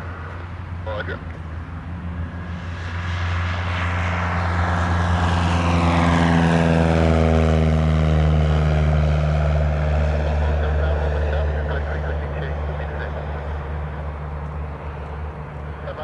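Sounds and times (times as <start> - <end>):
propeller aeroplane passing: 0.0 - 16.0.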